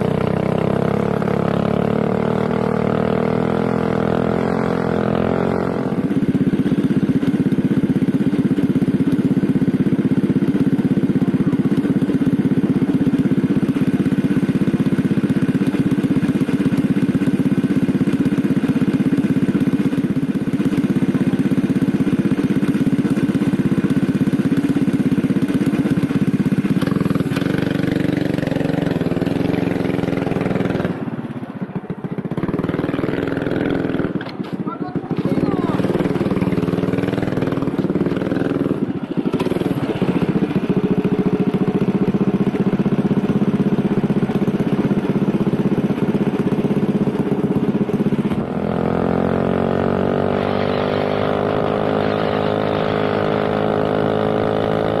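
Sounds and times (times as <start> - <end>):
kart engine revving and idling: 0.0 - 55.0.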